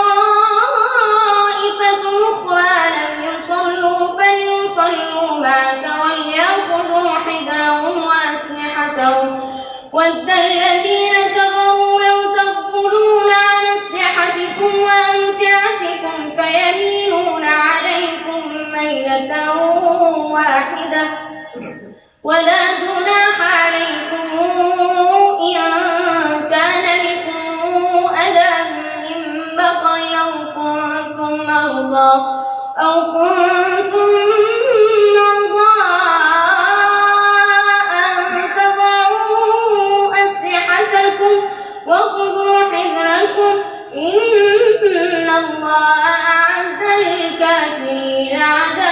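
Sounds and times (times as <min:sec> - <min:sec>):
boy chanting melodic recitation: 0:00.0 - 0:48.9.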